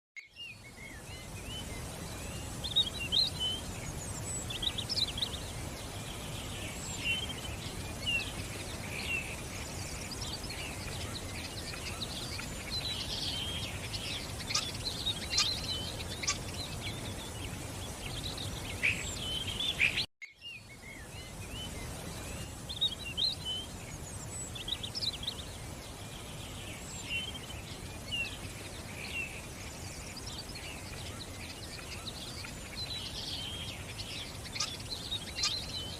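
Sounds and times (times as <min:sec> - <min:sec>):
small birds chirping and trilling: 0:00.2 - 0:35.9
running water: 0:00.5 - 0:35.9.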